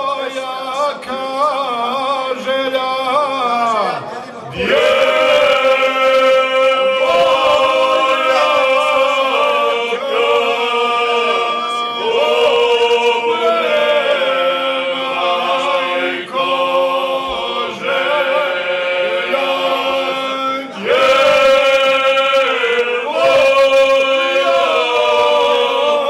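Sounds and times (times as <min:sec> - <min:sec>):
men singing unaccompanied: 0:00.0 - 0:03.8, 0:04.5 - 0:26.0.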